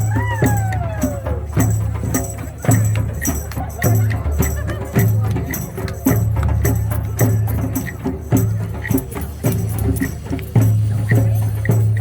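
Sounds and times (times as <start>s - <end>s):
deep drum beats: 0.0s - 12.0s
shaken rattles: 0.0s - 12.0s.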